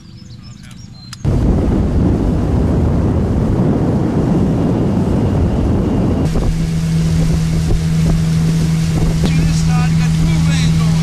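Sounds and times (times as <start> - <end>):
wind buffeting microphone: 0.0 - 11.0
outboard motor running: 1.3 - 11.0.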